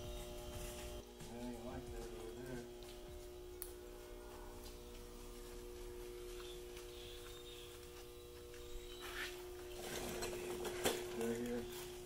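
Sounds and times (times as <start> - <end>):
low two-tone hum: 0.0 - 12.0.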